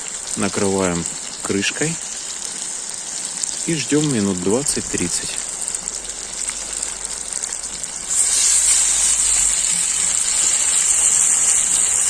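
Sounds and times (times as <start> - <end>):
pot hissing and sizzling: 0.0 - 12.0.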